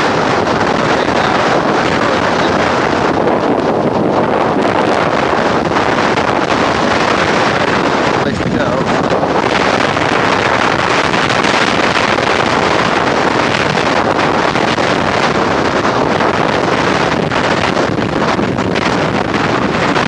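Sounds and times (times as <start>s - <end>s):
wind blasting across microphone: 0.0s - 20.0s.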